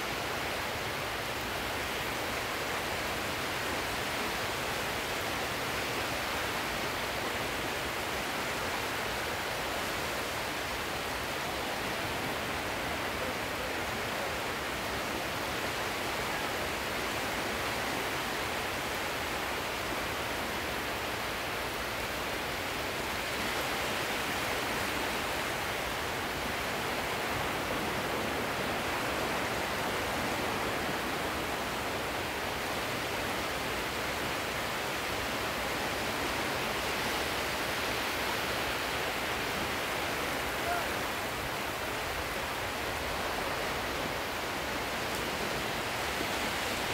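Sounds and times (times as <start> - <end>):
sea surf washing: 0.0 - 46.9.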